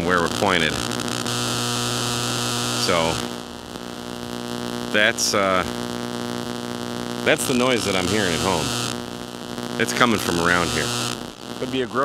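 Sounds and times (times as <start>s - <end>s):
harsh electrical buzz from speaker: 0.0s - 12.0s.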